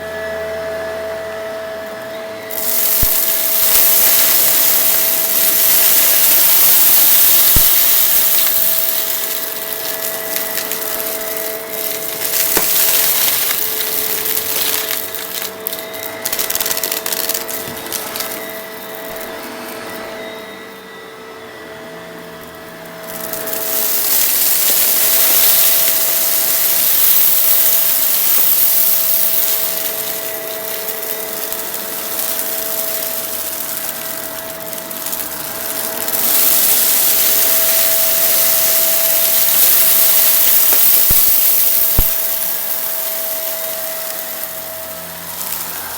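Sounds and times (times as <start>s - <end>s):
vacuum cleaner motor whine: 0.0s - 45.9s
debris rattling through vacuum: 2.5s - 20.5s, 22.4s - 45.9s.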